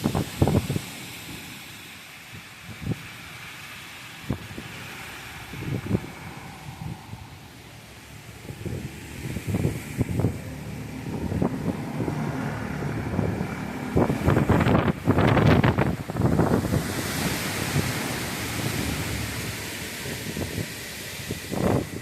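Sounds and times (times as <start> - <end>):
storm wind buffeting microphone: 0.0 - 22.0.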